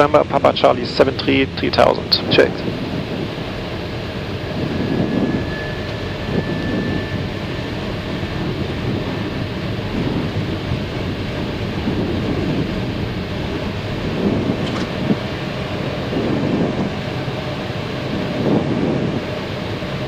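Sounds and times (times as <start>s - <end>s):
airflow rush and engine noise: 0.0s - 20.0s.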